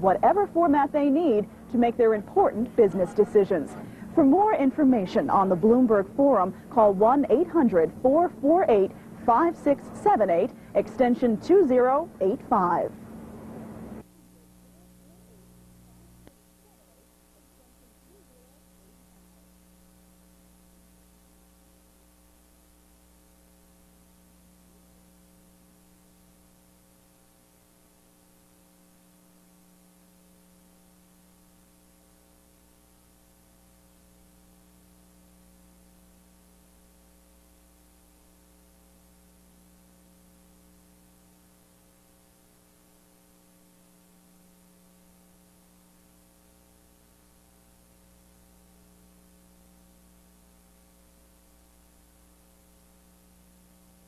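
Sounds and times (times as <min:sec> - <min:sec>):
faint electrical hum: 0:00.0 - 0:54.0
low hiss: 0:00.0 - 0:54.0.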